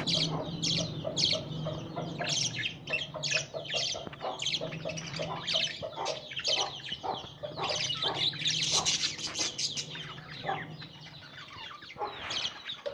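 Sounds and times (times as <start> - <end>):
budgerigars chirping: 0.0 - 12.9.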